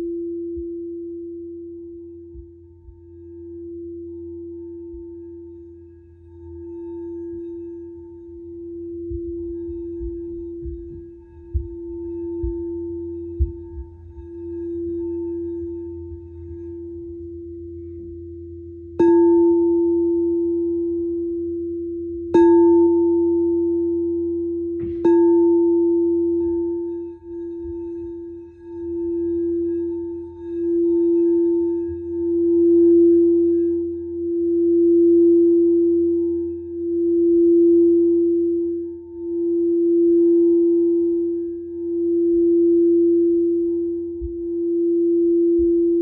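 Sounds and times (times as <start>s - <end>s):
singing bowl ringing: 0.0s - 46.0s
singing bowl strikes: 0.0s - 46.0s.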